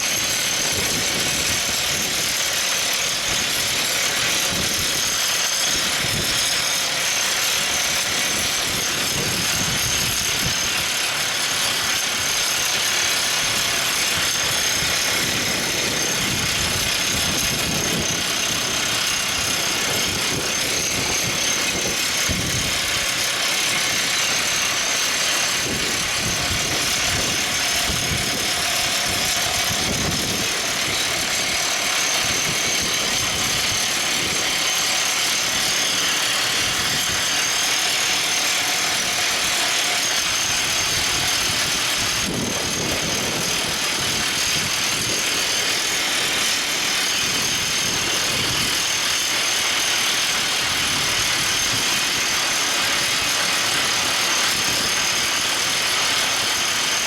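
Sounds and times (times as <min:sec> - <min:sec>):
drill rig machinery din: 0:00.0 - 0:57.0.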